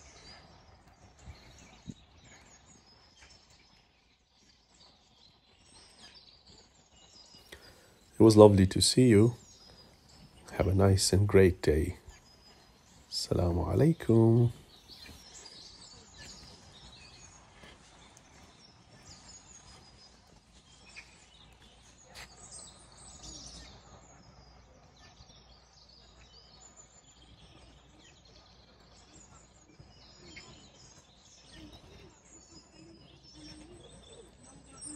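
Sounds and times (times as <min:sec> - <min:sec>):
faint bird chirps and calls: 0:00.0 - 0:34.9.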